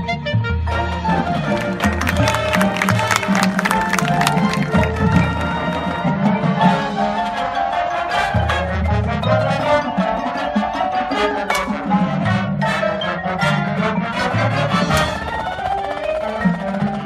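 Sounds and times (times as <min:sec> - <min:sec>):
marching band brass: 0:00.4 - 0:17.0.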